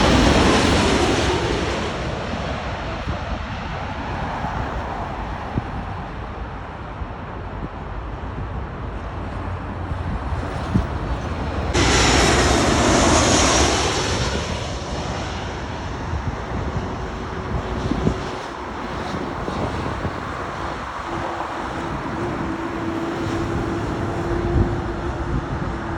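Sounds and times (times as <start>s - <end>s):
jet engine roar overhead: 0.0s - 25.9s
wind rumble on microphone: 0.0s - 25.9s.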